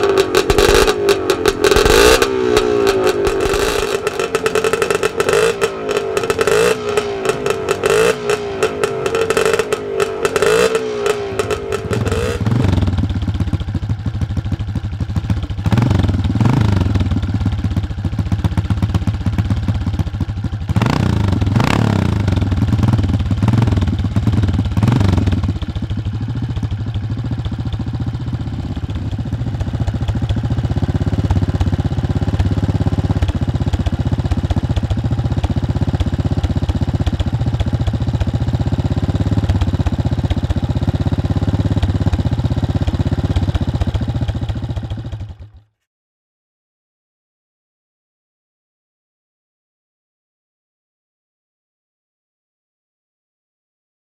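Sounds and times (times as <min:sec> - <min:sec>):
motocross bike engine idling fast: 0:00.0 - 0:45.7
motorcycle engine idling and revving: 0:00.0 - 0:45.8.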